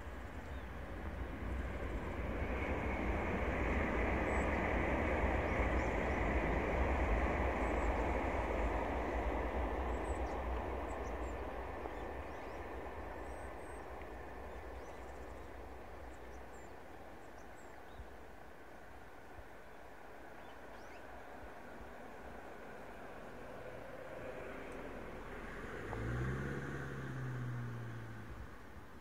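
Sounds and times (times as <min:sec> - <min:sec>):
high-speed train passing: 0:00.0 - 0:29.0.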